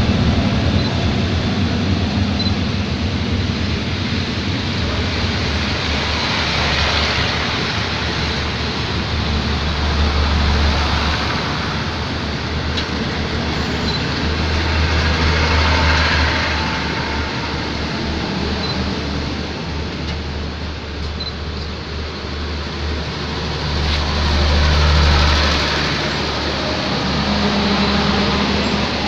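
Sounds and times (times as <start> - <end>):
low train rumble: 0.0 - 29.0
train wheels rushing on rails: 0.0 - 29.0.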